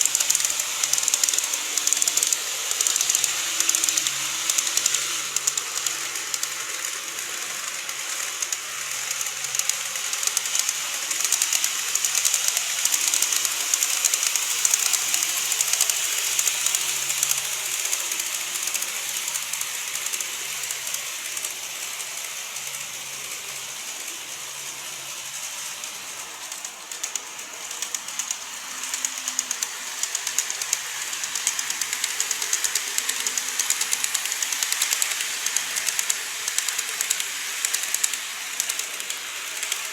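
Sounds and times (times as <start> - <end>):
model train whirring: 0.0 - 39.9
small wheel clicks on rails: 0.0 - 39.9.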